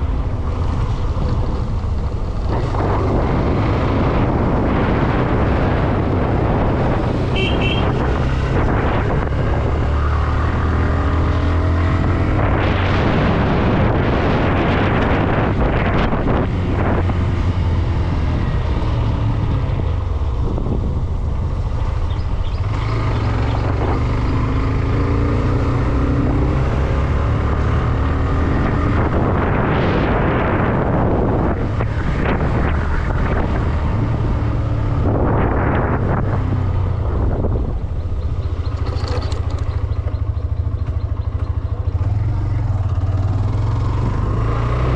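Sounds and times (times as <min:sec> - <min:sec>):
motorcycle engine running: 0:00.0 - 0:44.4
wind rushing over microphone: 0:00.0 - 0:44.9.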